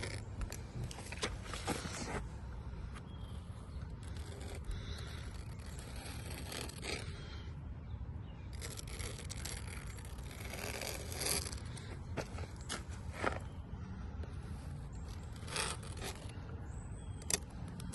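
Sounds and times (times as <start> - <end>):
caulk spreader scraping: 0.0 - 2.3, 3.4 - 7.5, 8.4 - 13.5, 14.4 - 17.9.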